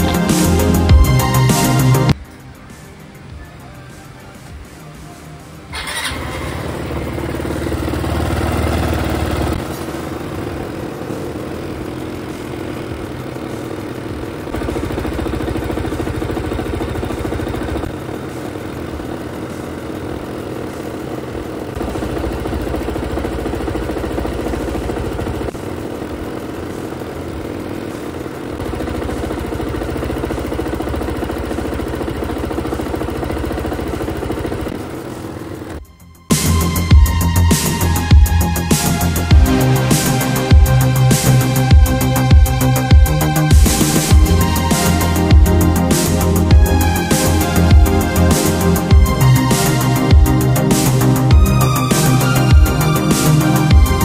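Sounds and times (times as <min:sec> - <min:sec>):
scooter engine revving and idling: 0:00.0 - 0:54.0.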